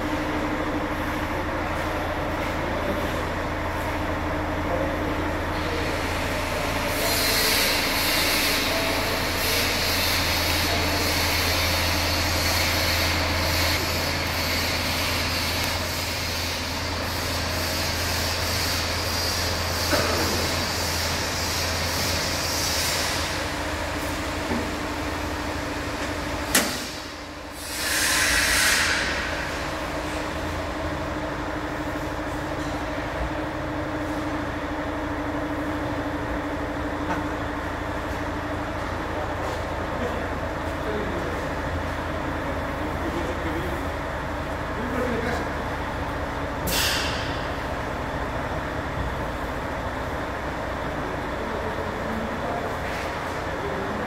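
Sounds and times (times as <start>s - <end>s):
machine humming and hissing: 0.0s - 54.0s.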